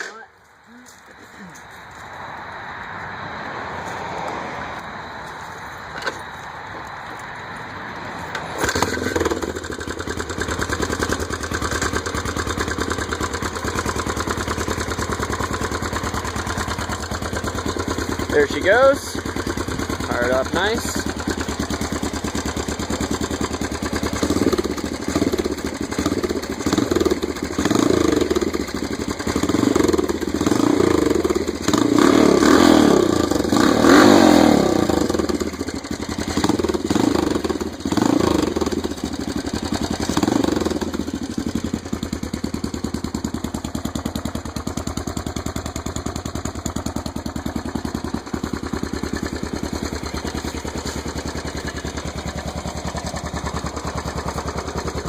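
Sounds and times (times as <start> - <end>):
motorcycle engine idling: 8.3 - 55.0
motorcycle engine revving: 8.3 - 55.0.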